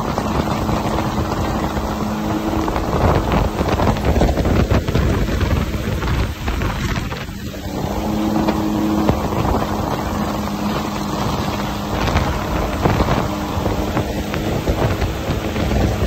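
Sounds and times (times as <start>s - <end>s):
boat engine humming: 0.0s - 16.0s
rushing water: 0.0s - 16.0s
wind buffeting microphone: 0.0s - 16.0s.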